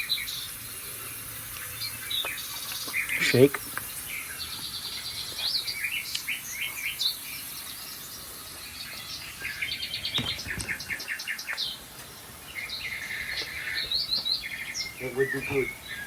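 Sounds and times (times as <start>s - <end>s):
birdsong from tv: 1.2s - 16.0s.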